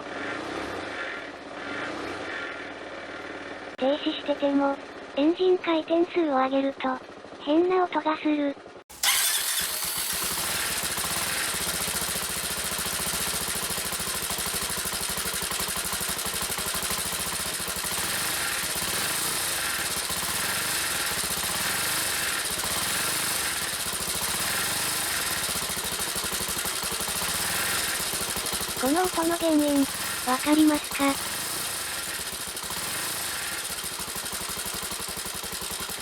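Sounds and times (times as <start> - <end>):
motorcycle engine revving: 0.0 - 5.6, 8.6 - 36.0
high-pitched engine noise: 0.0 - 8.2, 8.9 - 36.0.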